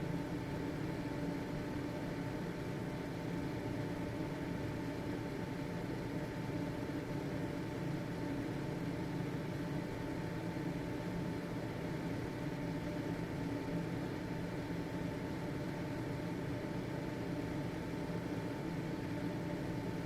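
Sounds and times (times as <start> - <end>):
ventilation fan running: 0.0 - 20.0.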